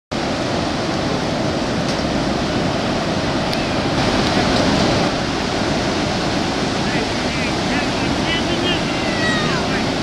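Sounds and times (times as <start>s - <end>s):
ocean surf washing ashore: 0.1s - 10.0s.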